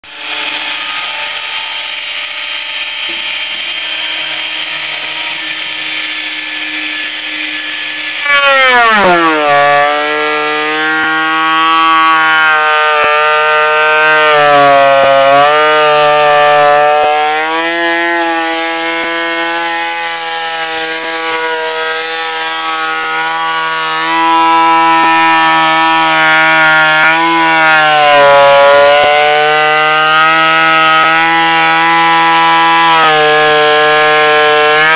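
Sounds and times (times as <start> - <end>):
electric planer whining: 0.0 - 34.9.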